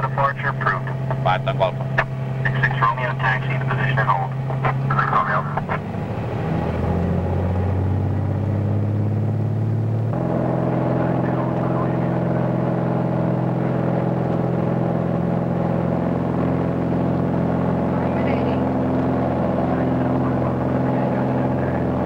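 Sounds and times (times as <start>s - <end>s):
light airplane engine drone: 0.0s - 22.0s.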